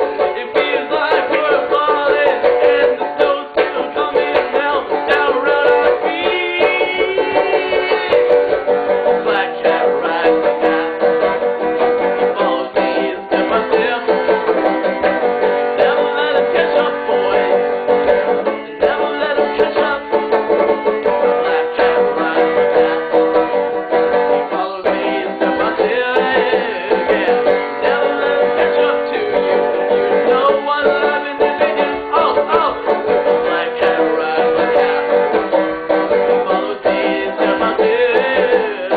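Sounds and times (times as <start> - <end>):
banjo picking: 0.0 - 38.9.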